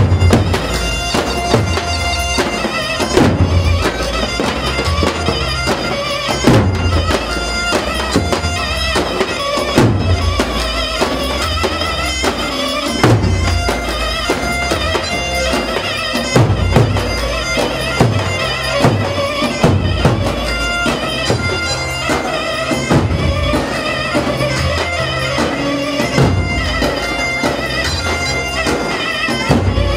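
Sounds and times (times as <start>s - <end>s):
heavy drum beat: 0.0s - 29.9s
reedy wind instrument lead: 0.0s - 29.9s.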